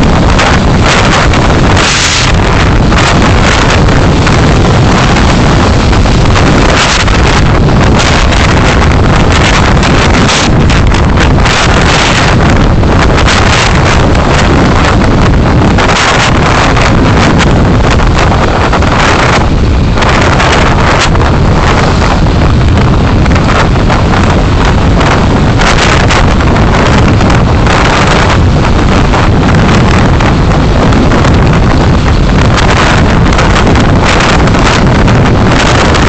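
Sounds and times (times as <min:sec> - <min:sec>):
car road and wind noise: 0:00.0 - 0:36.0
microphone flutter: 0:00.0 - 0:36.0.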